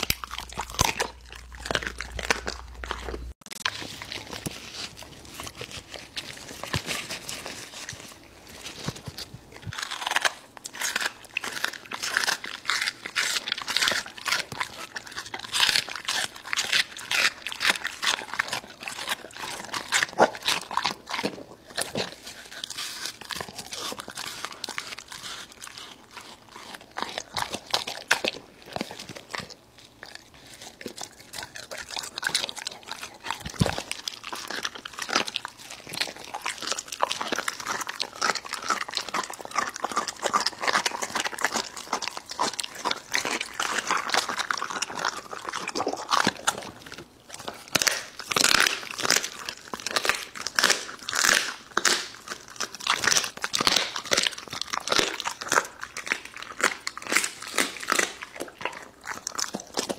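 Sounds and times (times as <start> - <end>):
dog chewing food: 0.0 - 59.9.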